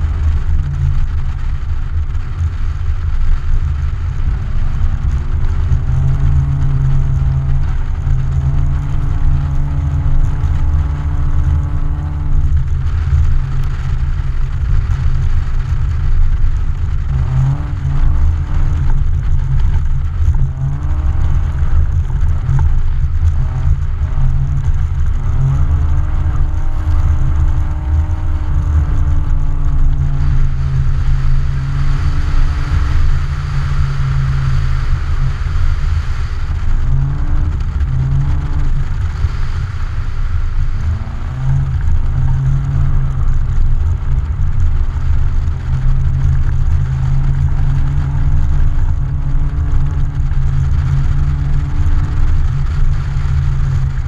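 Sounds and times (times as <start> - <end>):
car engine revving: 0.0 - 54.0
heavy low rumble: 0.0 - 54.0.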